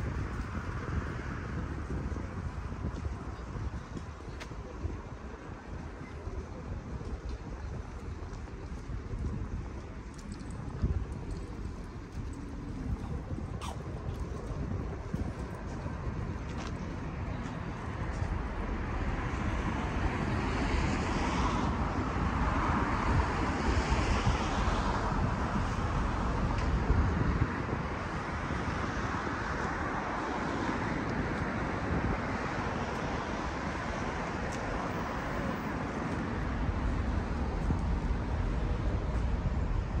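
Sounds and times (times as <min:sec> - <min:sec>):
road traffic passing: 0:00.0 - 0:40.0
wind rumbling on microphone: 0:00.0 - 0:40.0.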